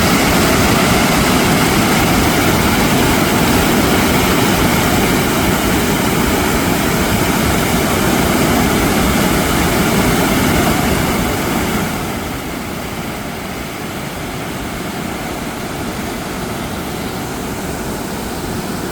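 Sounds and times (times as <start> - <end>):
mountain stream rushing: 0.0 - 18.9.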